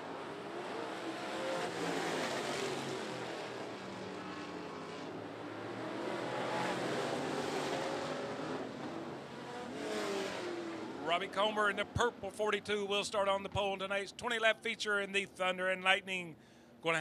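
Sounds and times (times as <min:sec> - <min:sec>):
race car engines: 0:00.0 - 0:15.6.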